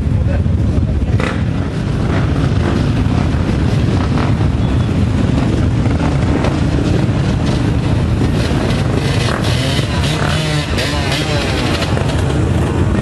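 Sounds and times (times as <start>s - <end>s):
motorcycle and quad engines rumbling: 0.0s - 13.0s
wind buffeting microphone: 0.0s - 13.0s.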